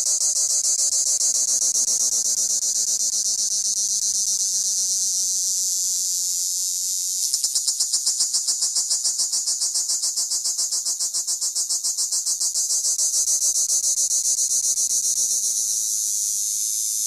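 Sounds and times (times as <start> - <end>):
cicada buzzing: 0.0 - 17.0.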